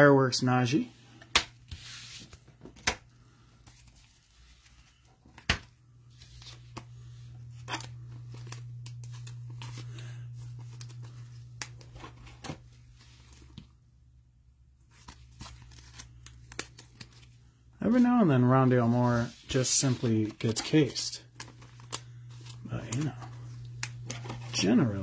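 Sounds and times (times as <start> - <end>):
steady low hum: 3.1 - 25.0.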